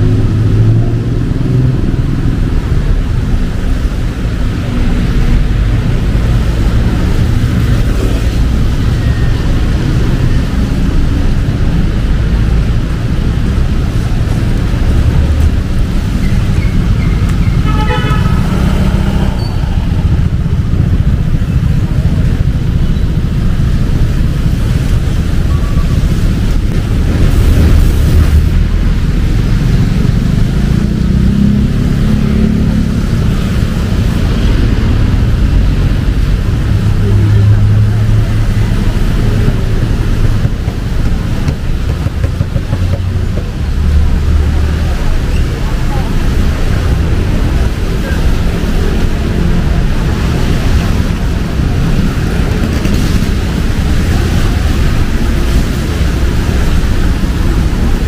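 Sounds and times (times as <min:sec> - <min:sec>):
cars and motorcycles passing: 0:00.0 - 0:58.0
traffic noise: 0:00.0 - 0:58.0
vehicle engine humming: 0:00.0 - 0:58.0.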